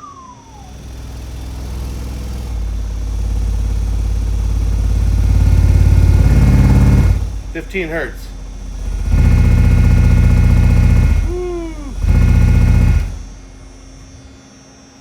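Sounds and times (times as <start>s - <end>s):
deep bass test tone: 0.6s - 13.4s.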